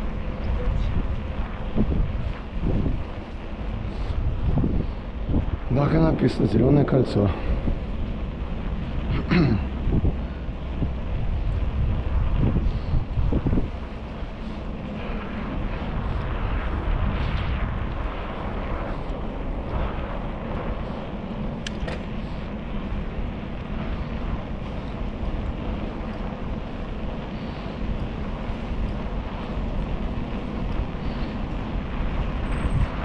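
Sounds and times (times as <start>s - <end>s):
bicycle road noise: 0.0s - 33.0s
wind on microphone: 0.0s - 33.0s.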